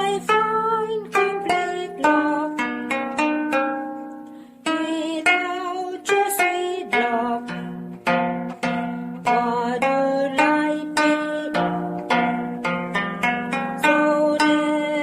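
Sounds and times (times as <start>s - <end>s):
plucked zither melody: 0.0s - 15.0s.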